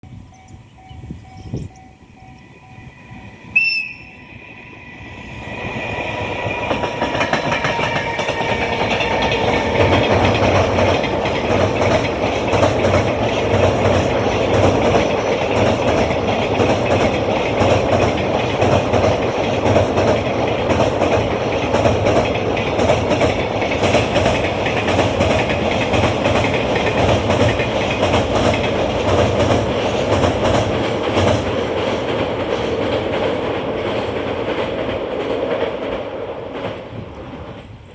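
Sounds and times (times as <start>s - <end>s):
freight train rumbling past: 0.0s - 37.9s
wheels clattering over rail joints: 6.4s - 37.8s.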